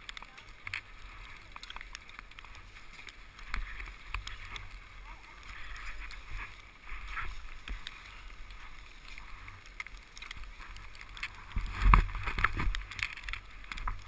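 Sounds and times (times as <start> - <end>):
skis scraping over snow: 0.0 - 14.0
wind rumbling on microphone: 0.0 - 14.0.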